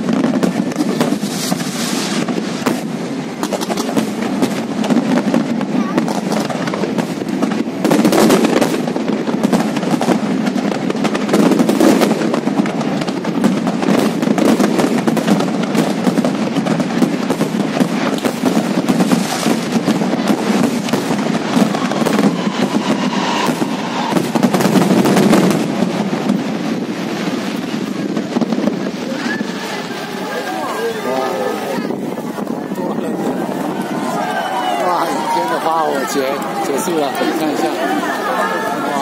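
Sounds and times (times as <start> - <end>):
fireworks shell bursts and crackling: 0.0 - 34.3.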